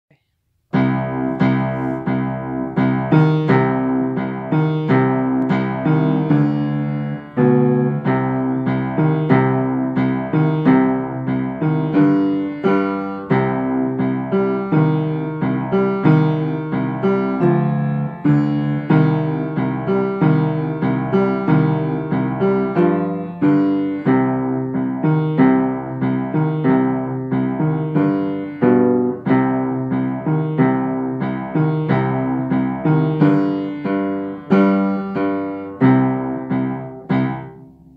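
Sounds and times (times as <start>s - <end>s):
upright piano playing: 0.7s - 37.9s.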